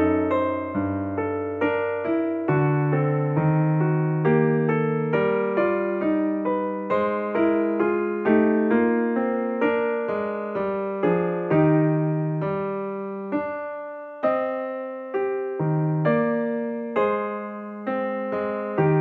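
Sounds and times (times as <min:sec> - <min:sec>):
slow keyboard melody: 0:00.0 - 0:19.0.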